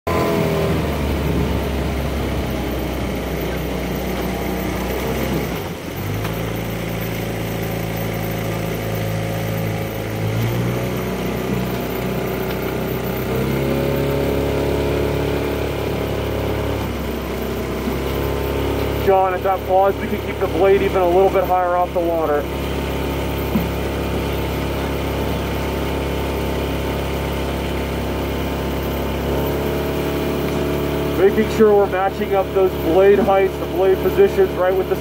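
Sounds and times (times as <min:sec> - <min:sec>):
outboard motor running: 0:00.1 - 0:35.0.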